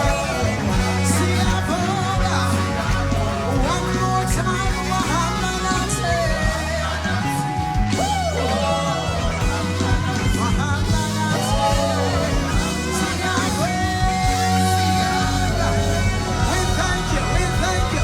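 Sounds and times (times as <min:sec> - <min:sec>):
band playing: 0:00.0 - 0:18.0
singer holding long notes: 0:00.0 - 0:18.0.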